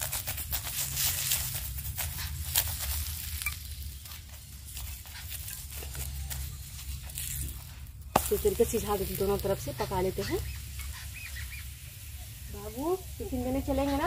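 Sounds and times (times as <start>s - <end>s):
ghee sizzling on hot pan: 0.0s - 14.0s.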